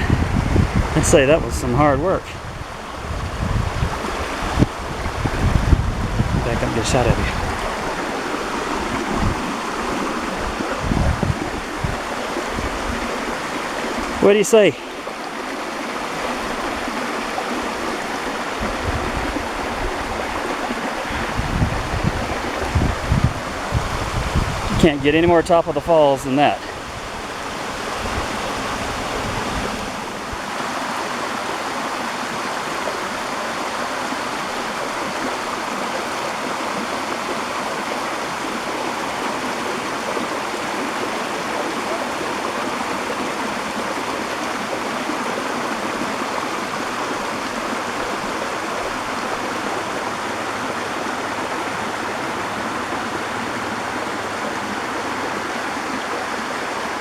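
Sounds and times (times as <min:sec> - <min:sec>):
waterfall rushing water: 0:00.0 - 0:57.0.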